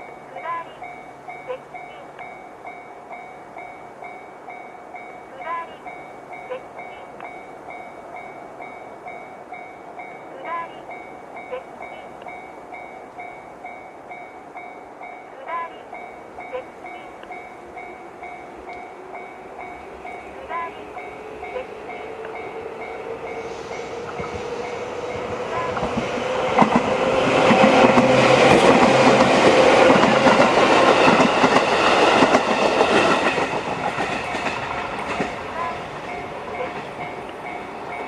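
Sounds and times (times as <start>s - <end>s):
level crossing alarm bell: 0.0s - 24.0s, 29.3s - 38.0s
train running noise: 0.0s - 38.0s.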